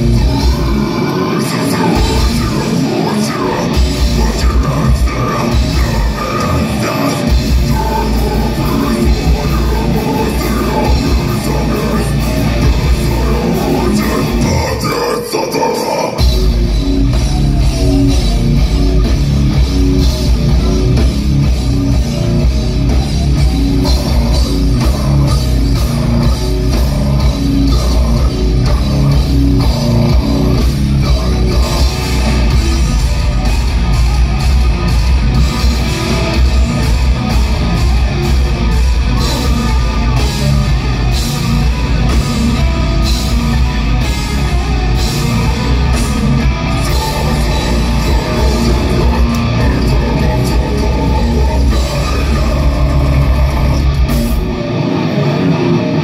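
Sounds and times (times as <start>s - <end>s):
metal band playing live: 0.0s - 56.0s.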